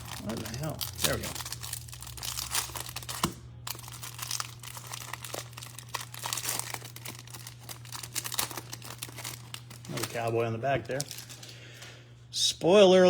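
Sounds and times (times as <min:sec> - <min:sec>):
plastic wrapping crinkling: 0:00.0 - 0:11.9
steady low hum: 0:00.0 - 0:13.0.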